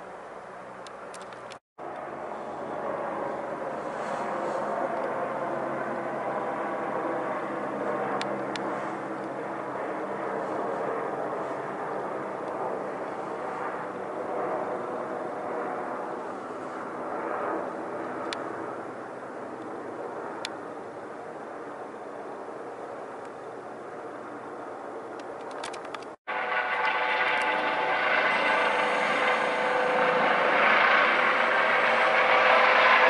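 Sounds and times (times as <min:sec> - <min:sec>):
helicopter drone: 0:00.0 - 0:33.0.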